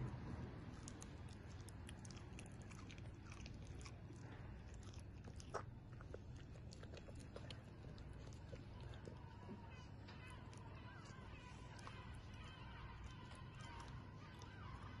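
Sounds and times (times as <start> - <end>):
dog crunching raw produce: 0.6 - 15.0.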